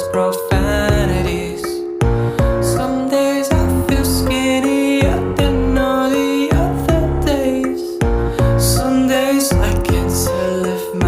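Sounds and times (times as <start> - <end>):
pop song with steady beat: 0.0 - 11.0.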